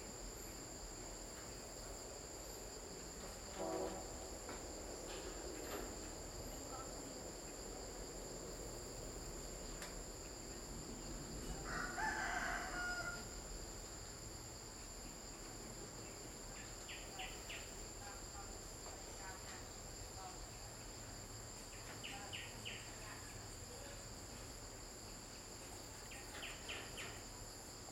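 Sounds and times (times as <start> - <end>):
insect drone: 0.0 - 27.9.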